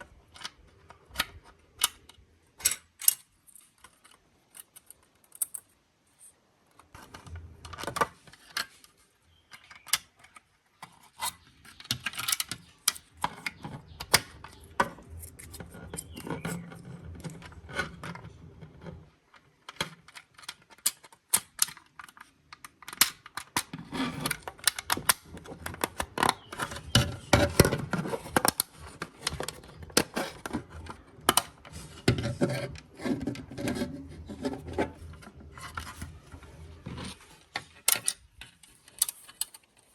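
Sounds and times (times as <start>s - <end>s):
plastic toy parts clicking: 0.2s - 5.8s, 6.8s - 18.2s, 19.3s - 33.9s, 37.0s - 39.9s.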